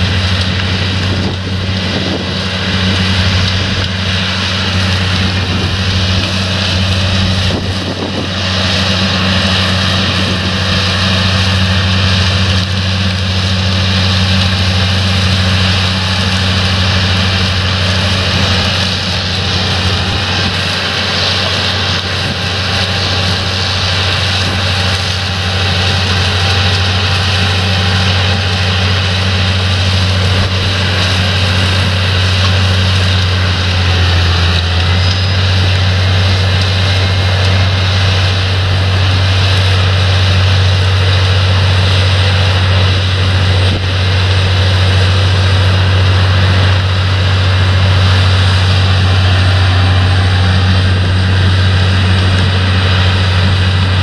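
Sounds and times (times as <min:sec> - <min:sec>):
deep engine hum: 0:00.0 - 0:54.0
harvester lifting gear in soil: 0:00.0 - 0:54.0.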